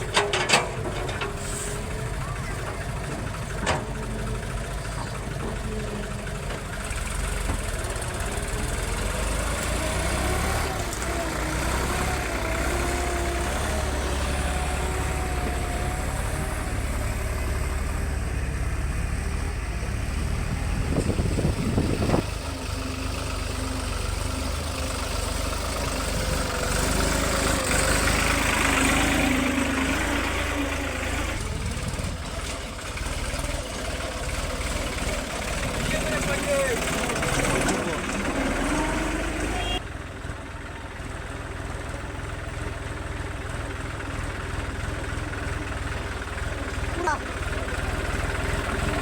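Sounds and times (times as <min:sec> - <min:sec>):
heavy machinery engine rumbling: 0:00.0 - 0:49.0.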